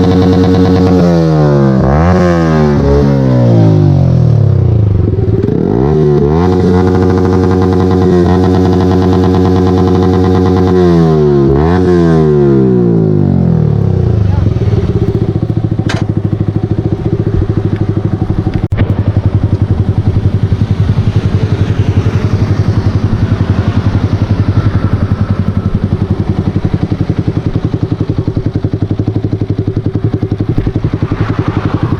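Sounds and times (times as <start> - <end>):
motorcycle engine idling: 0.0 - 2.1, 2.7 - 11.7, 12.3 - 31.9.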